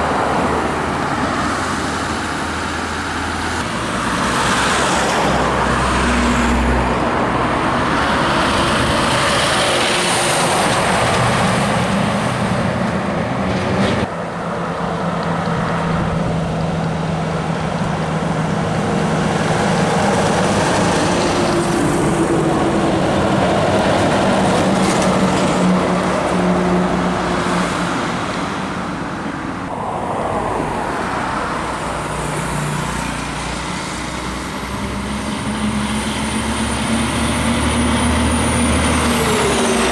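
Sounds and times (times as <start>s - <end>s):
heavy diesel trucks driving past: 0.0s - 39.9s
road noise: 0.0s - 39.9s.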